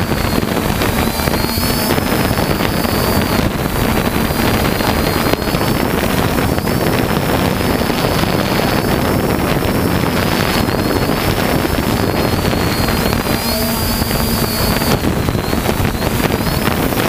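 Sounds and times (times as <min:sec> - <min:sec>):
drone propellers buzzing: 0:00.0 - 0:17.0
wind on microphone: 0:00.0 - 0:17.0.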